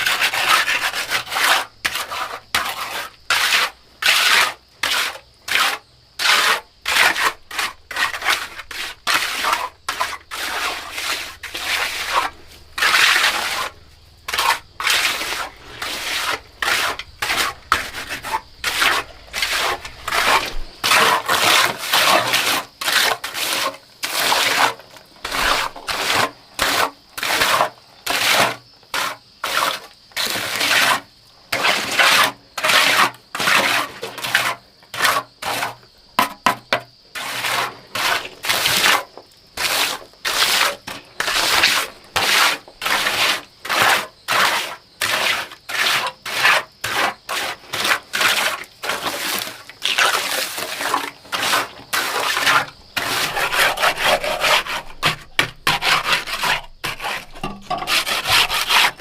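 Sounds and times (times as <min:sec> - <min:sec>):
quick scraping strokes: 0:00.0 - 0:35.8, 0:37.2 - 0:39.0, 0:39.6 - 0:59.0.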